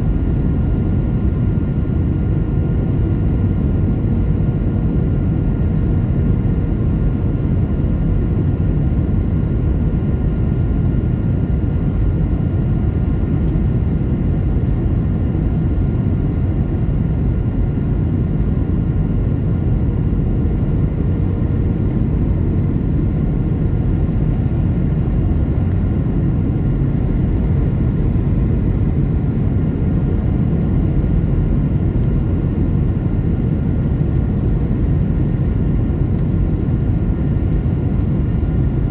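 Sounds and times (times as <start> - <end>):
airplane cabin drone: 0.0 - 38.9
faint steady hum: 0.0 - 38.9.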